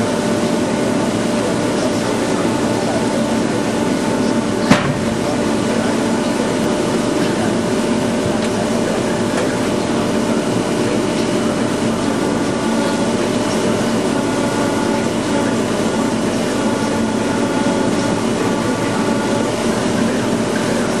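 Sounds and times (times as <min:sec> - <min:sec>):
sawmill mechanical hum: 0:00.0 - 0:21.0.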